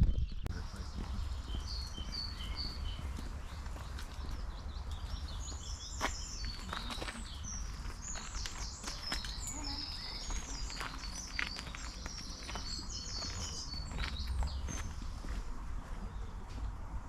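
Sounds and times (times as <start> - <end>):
small birds trilling: 0.0 - 15.4
footsteps on a path: 0.0 - 16.8.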